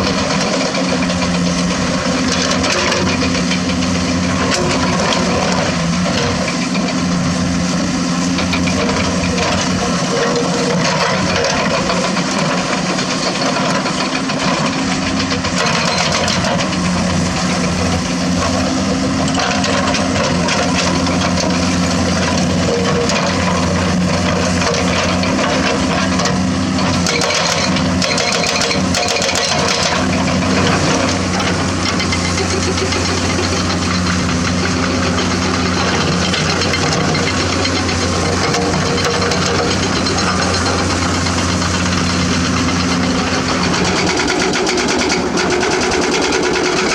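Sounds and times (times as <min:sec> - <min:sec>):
diesel engine running: 0:00.0 - 0:46.9
excavator scraping and clattering: 0:00.0 - 0:46.9.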